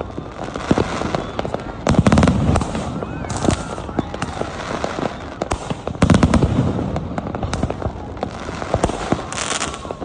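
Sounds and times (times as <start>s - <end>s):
fireworks bangs and crackles: 0.0s - 10.0s
hissing crackling firework burst: 0.0s - 10.0s.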